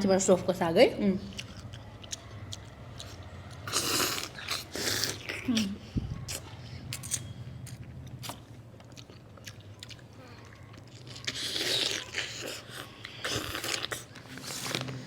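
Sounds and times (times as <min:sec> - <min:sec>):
person chewing food: 0:01.2 - 0:14.9.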